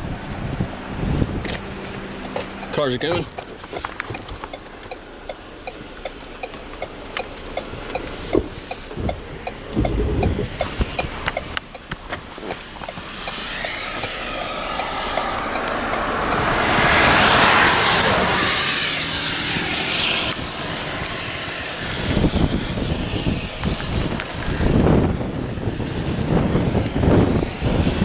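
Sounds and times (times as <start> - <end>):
low rumbling: 0.0 - 28.0
vehicle passing on highway: 0.0 - 28.0.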